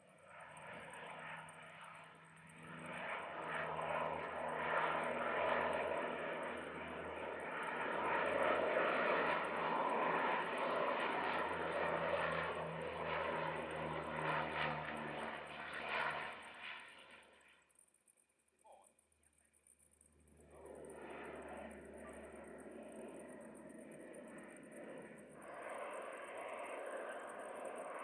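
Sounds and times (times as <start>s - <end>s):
turboprop plane flying past: 0.0s - 28.0s.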